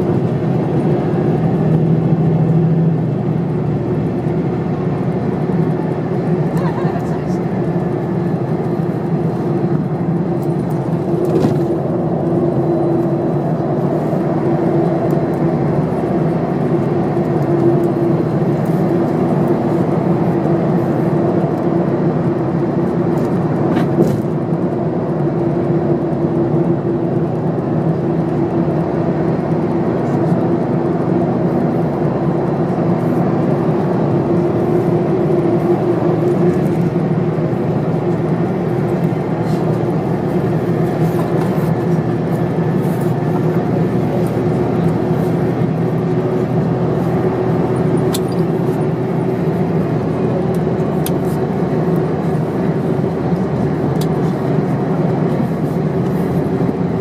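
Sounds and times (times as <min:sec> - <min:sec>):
bus engine droning: 0:00.0 - 0:57.0
road and tyre noise: 0:00.0 - 0:57.0.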